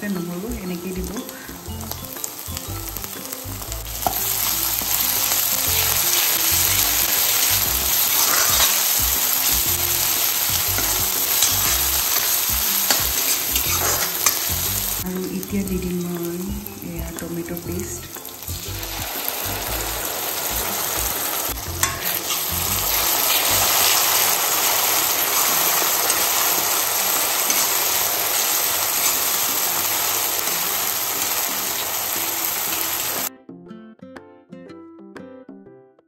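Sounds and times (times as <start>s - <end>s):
tomato paste sizzling in oil: 0.0s - 33.3s
light background music: 0.0s - 36.0s.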